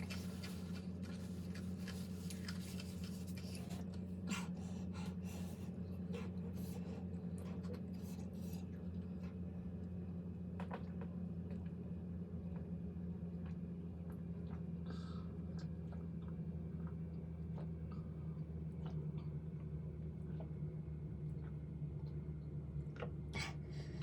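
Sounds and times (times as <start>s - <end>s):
chewing: 0.0s - 10.0s, 12.5s - 23.6s
steady low hum: 0.0s - 24.0s.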